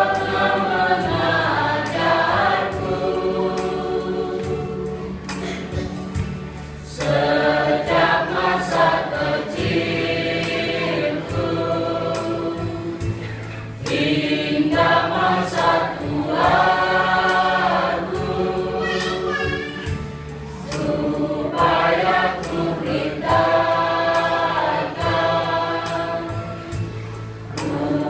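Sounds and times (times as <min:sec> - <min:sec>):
choir singing a hymn: 0:00.0 - 0:28.0.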